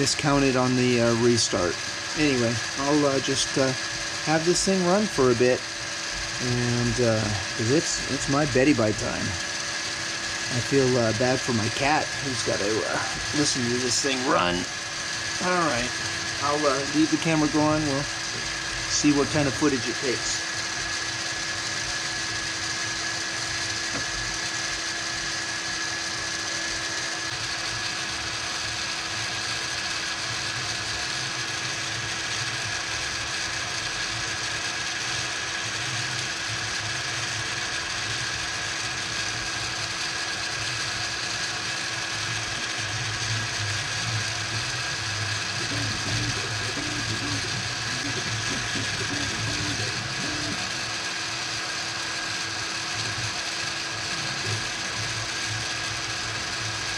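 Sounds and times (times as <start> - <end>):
printer stepper motors whirring: 0.0 - 56.9.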